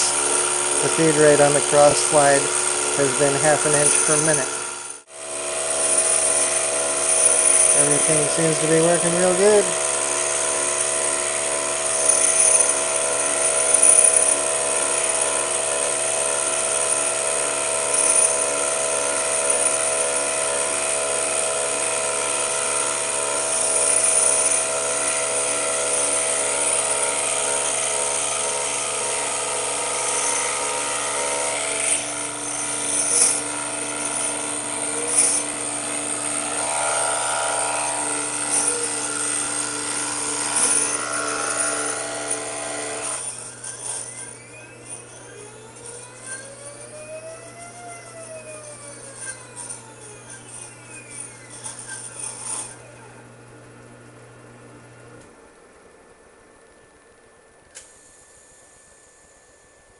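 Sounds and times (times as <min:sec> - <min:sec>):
lathe motor whining: 0:00.0 - 0:53.5.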